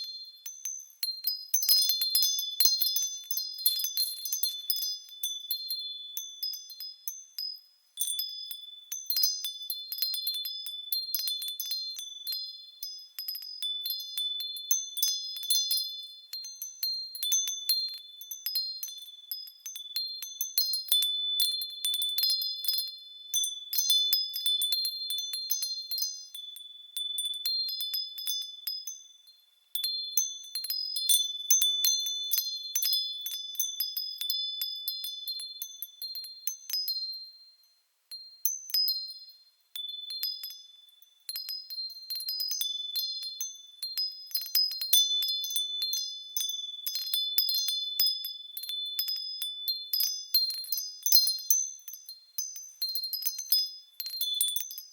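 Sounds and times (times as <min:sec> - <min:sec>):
wind bells tinkling: 0:00.0 - 0:54.9.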